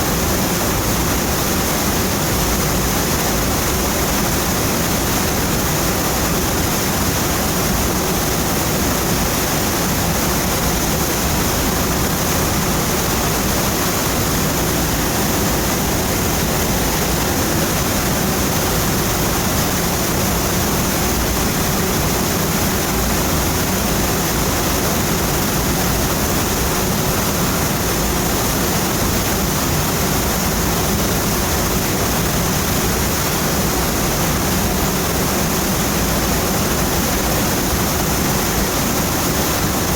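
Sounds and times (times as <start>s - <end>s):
waterfall rushing: 5.0s - 39.9s.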